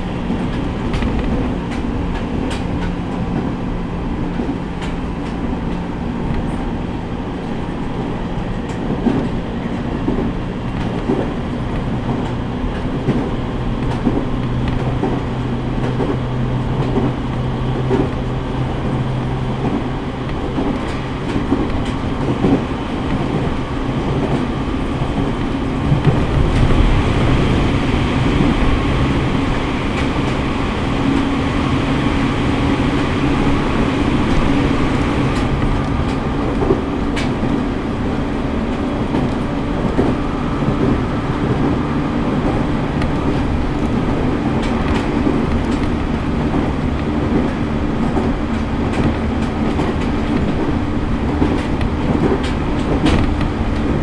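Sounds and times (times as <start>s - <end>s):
rail joints clacking: 0.0s - 54.0s
train hum: 0.0s - 54.0s
train wheels rumbling on rail: 0.0s - 54.0s.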